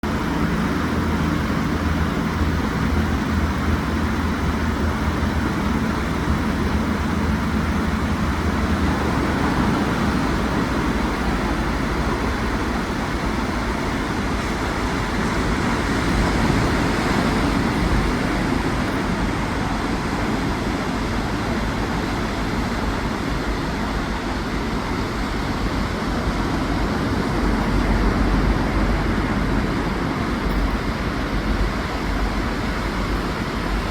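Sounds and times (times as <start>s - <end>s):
ocean waves breaking on beach: 3.8s - 33.9s.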